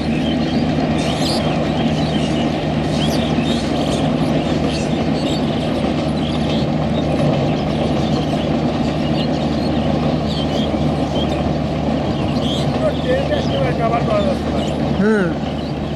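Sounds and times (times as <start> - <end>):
diesel locomotive engine drone: 0.0 - 15.9
train wheels rumbling on rails: 0.0 - 15.9.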